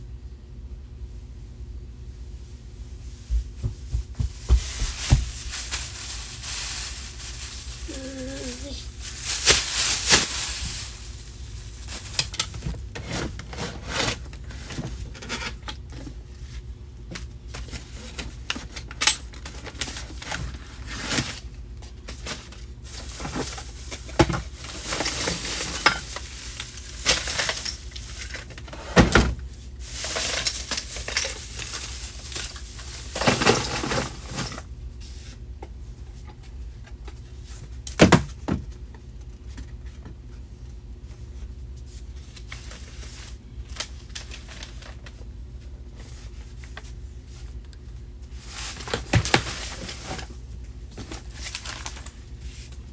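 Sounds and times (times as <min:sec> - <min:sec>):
objects rustling and clattering: 0:02.4 - 0:52.9.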